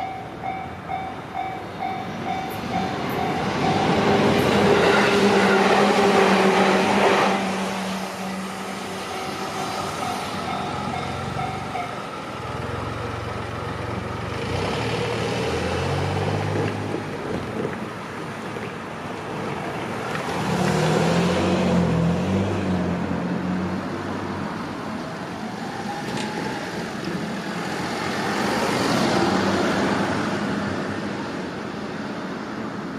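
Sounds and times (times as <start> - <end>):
cars and trucks driving by: 0.0 - 32.9
passing train: 0.0 - 32.9.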